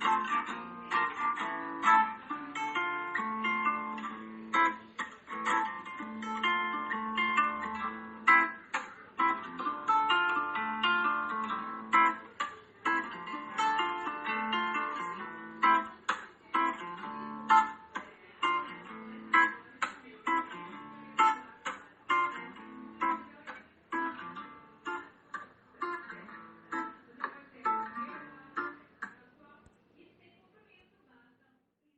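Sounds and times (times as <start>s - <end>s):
acoustic guitar playing: 0.0s - 29.2s.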